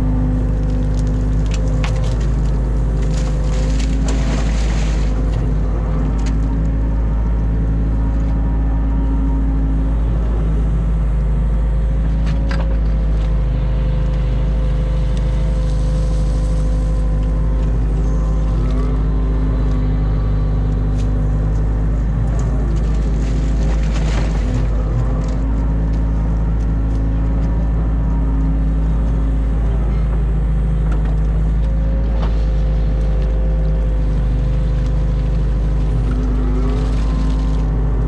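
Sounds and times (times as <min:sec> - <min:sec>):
excavator engine droning: 0:00.0 - 0:38.0.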